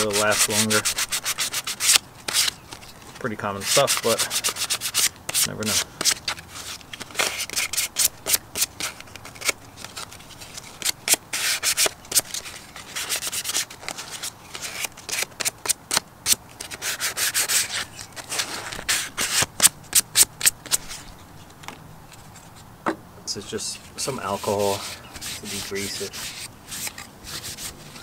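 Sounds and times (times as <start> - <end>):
abrasive pad rasping on plastic: 0.0 - 21.2, 23.8 - 28.0.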